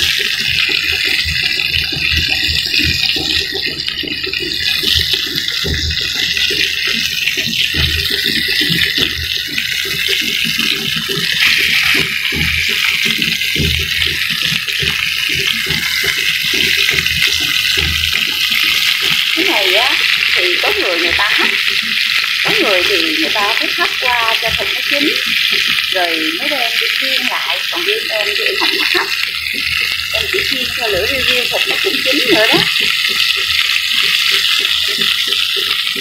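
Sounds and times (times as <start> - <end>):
food sizzling in hot oil: 0.0 - 36.0
oil crackling and popping: 0.0 - 36.0.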